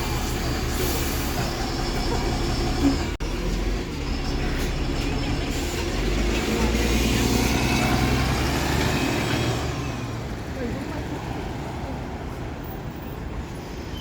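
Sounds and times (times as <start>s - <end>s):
diesel bus engine rumbling: 0.0s - 14.0s.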